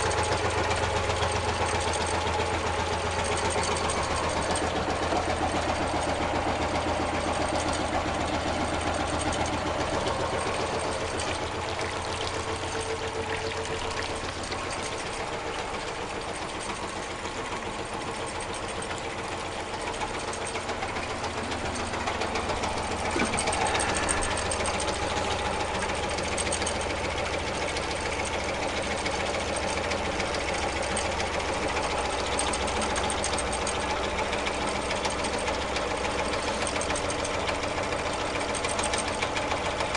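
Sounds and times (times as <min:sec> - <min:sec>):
stirling engine clattering: 0:00.0 - 0:39.9.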